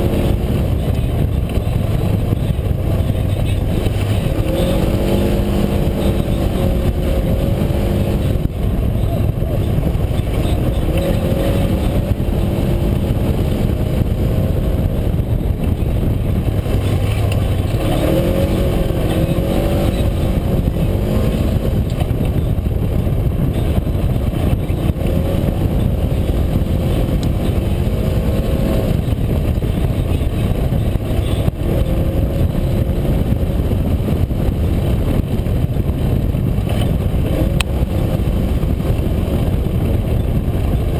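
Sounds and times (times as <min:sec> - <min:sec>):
utv engine revving: 0:00.0 - 0:40.9.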